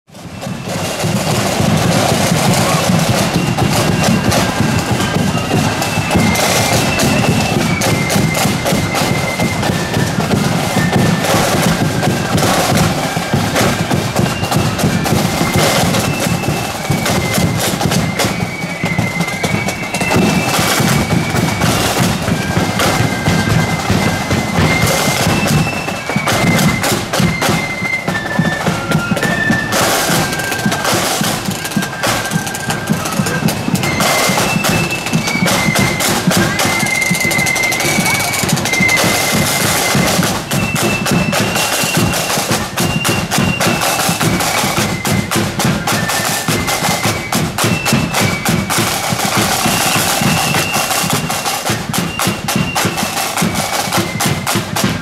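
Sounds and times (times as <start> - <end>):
flute melody: 0.1 - 55.0
snare and bass drums marching: 0.1 - 55.0.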